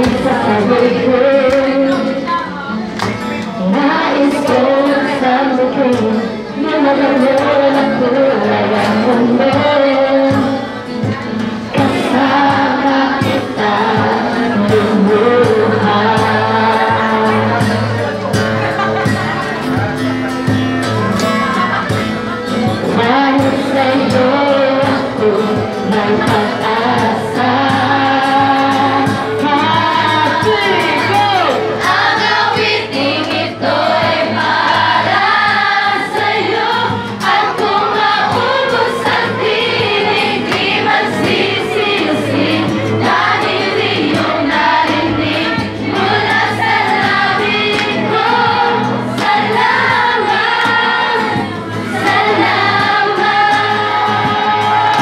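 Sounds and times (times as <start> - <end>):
woman singing into microphone: 0.0 - 2.9, 3.5 - 17.9, 21.4 - 31.2, 31.8 - 55.0
voices singing along: 0.0 - 20.1, 21.0 - 55.0
acoustic guitar: 0.0 - 55.0.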